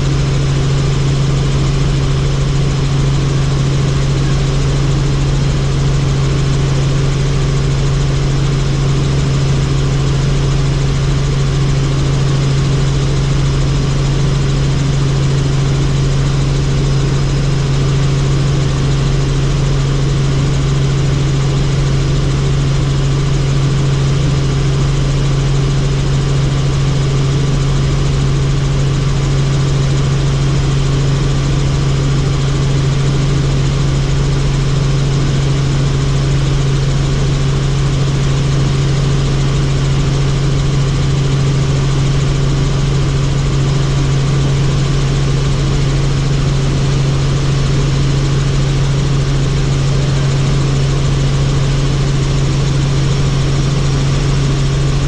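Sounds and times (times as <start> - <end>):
helicopter drone: 0.0 - 55.0.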